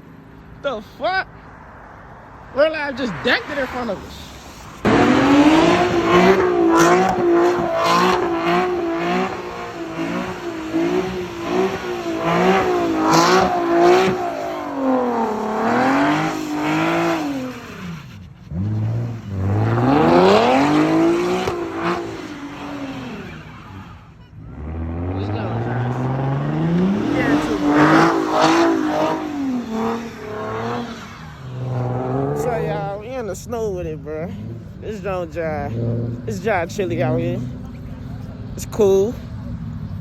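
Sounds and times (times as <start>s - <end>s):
car engine revving: 1.3s - 40.0s.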